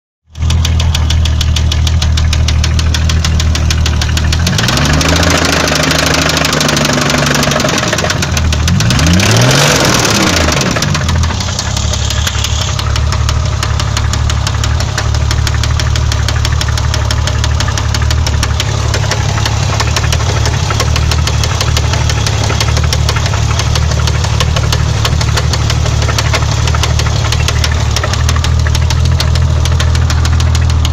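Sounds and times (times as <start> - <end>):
car engine knocking and revving: 0.3 - 30.9.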